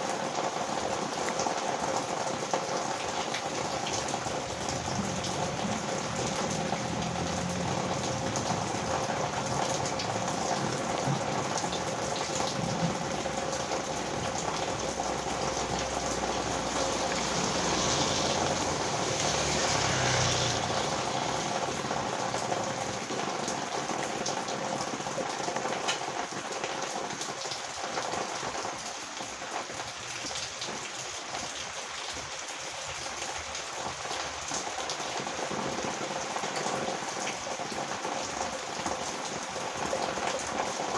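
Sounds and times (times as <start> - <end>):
heavy rain pouring on road: 0.0 - 40.9.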